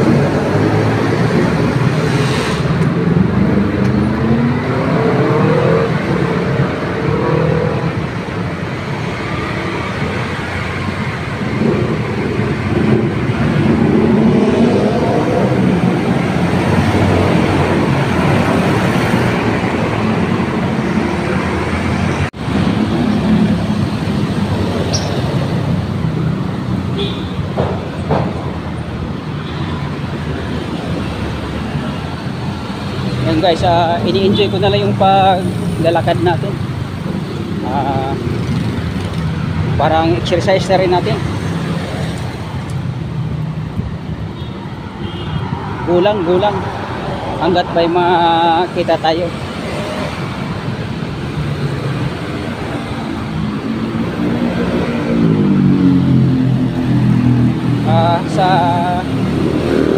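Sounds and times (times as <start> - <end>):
motorcycles and cars passing: 0.0 - 59.9.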